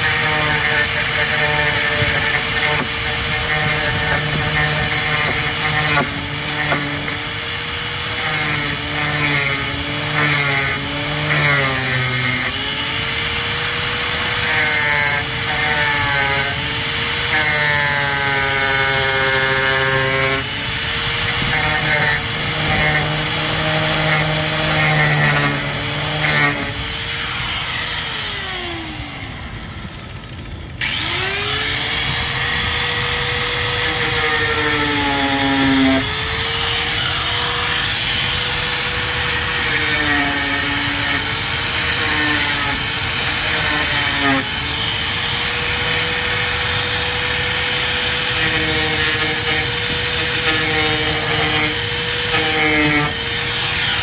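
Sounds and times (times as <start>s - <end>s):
power tool cutting: 0.0s - 54.0s.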